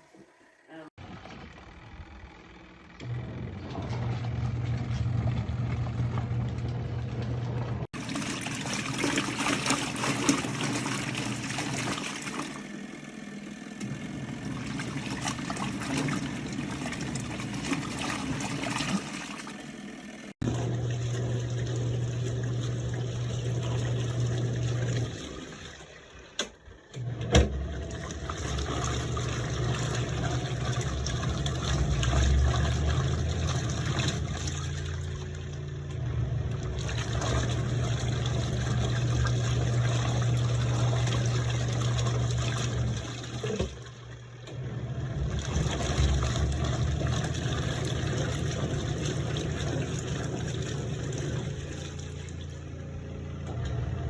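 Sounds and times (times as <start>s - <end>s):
washing machine motor hum: 0.0s - 54.0s
water swishing in tub: 0.0s - 54.0s.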